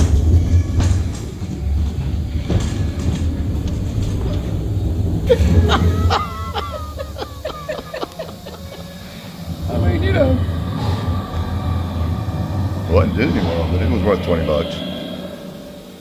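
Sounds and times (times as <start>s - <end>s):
boat rumbling through water: 0.0s - 16.0s.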